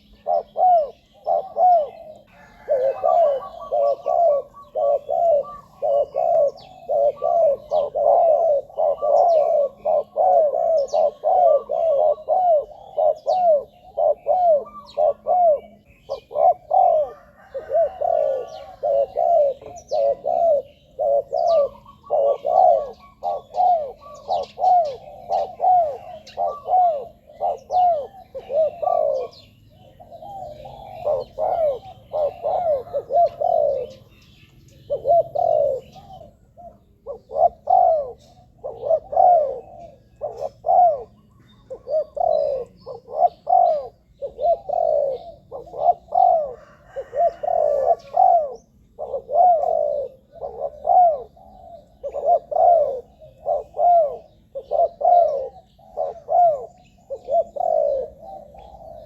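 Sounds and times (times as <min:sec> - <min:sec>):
dove cooing: 0:00.0 - 0:59.0
small birds chirping: 0:00.0 - 0:59.0.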